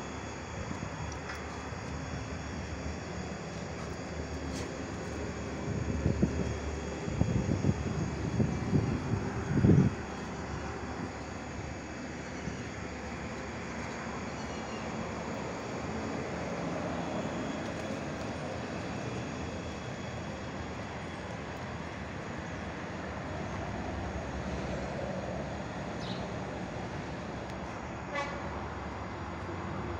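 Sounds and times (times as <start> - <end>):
machine rumble: 0.0 - 28.0.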